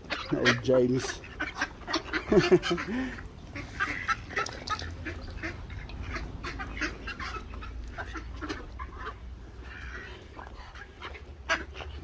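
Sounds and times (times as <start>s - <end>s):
ducks quacking: 0.0s - 12.0s
geese honking: 0.0s - 12.0s
low steady rumble: 1.2s - 12.0s.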